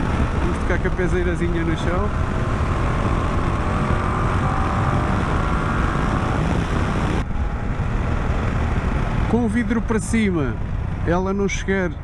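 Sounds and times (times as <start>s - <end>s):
wind rushing on microphone: 0.0s - 11.4s
motorcycle engine accelerating: 0.0s - 12.0s.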